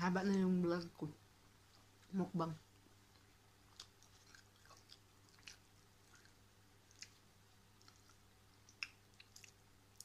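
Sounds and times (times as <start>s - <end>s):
faint low hum: 0.0s - 10.0s
chewing: 1.6s - 10.0s.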